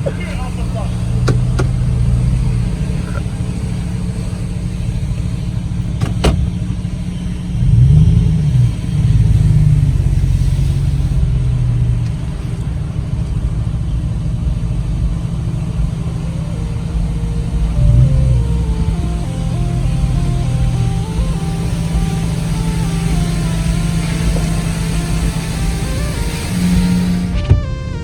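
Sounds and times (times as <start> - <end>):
pickup engine running: 0.0 - 28.0.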